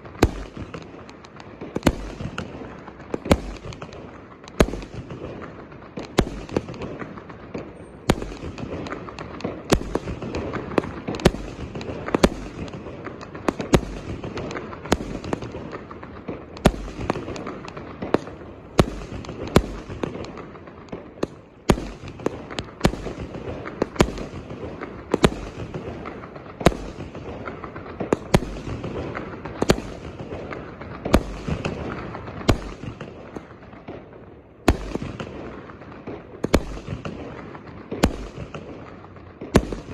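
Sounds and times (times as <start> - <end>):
firework crackling: 0.0 - 39.9
firework reports: 0.0 - 39.9.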